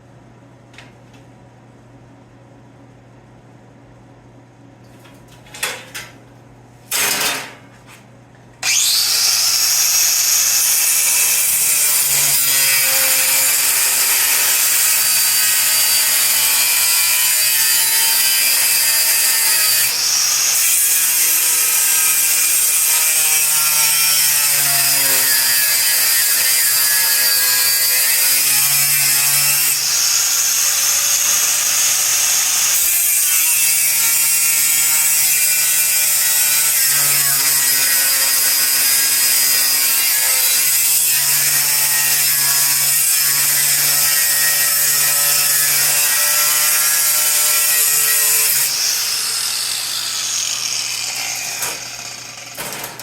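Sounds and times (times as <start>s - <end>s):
cutoff wheel cutting sheet steel: 8.6s - 52.9s.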